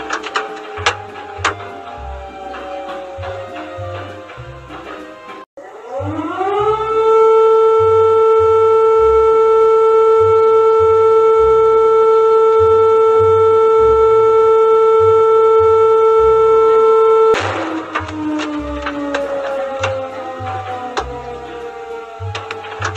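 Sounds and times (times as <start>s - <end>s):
emergency alert siren: 0.0s - 22.9s.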